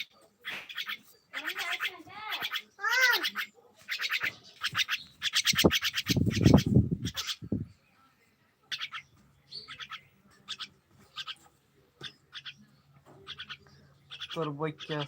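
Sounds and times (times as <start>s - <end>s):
bird chirping: 0.0s - 8.1s, 8.7s - 15.0s.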